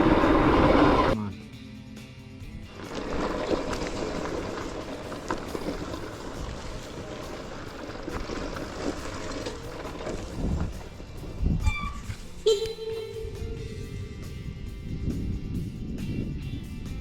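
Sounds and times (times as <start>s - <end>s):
tyres over rough ground: 0.0s - 17.0s.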